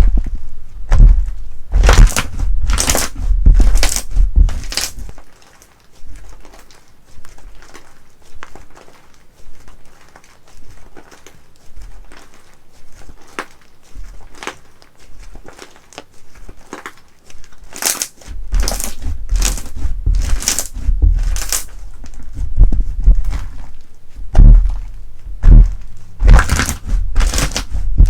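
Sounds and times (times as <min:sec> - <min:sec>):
crisp crunching squeezes: 0:00.9 - 0:28.0
slime squeezed by hand crackling: 0:01.7 - 0:28.0.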